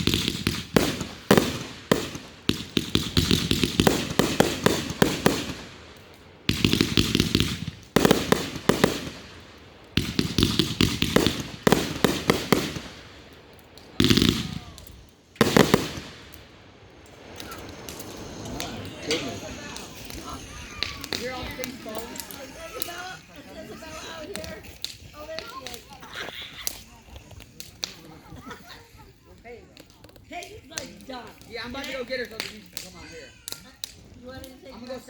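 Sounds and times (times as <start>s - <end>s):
loud firework reports: 0.0s - 28.4s
fireworks bangs and crackling: 0.0s - 35.0s.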